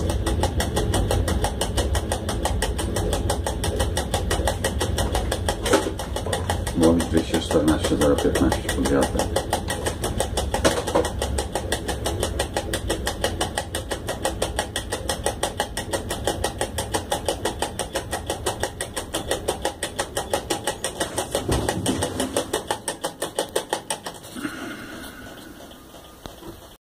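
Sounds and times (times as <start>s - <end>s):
locomotive running rumble: 0.0s - 26.8s
rapid even clicking: 0.0s - 26.8s.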